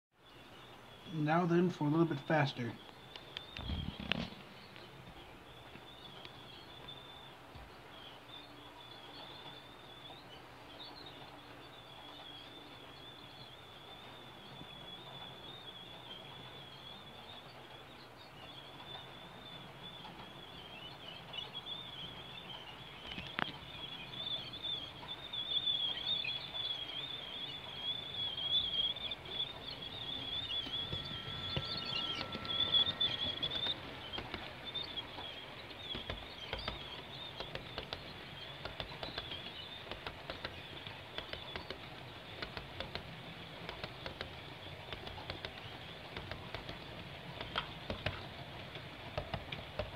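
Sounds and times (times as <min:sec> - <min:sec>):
toy train whine: 0:00.4 - 0:49.9
wheels clacking over track joints: 0:08.7 - 0:49.9.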